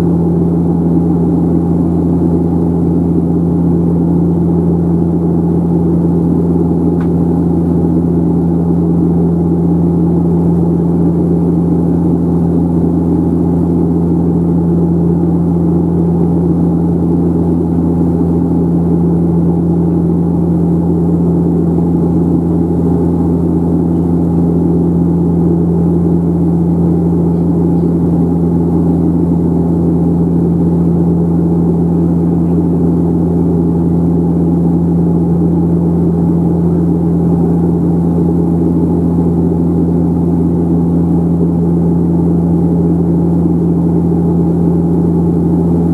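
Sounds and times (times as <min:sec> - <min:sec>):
turboprop engine drone in cabin: 0:00.0 - 0:45.9.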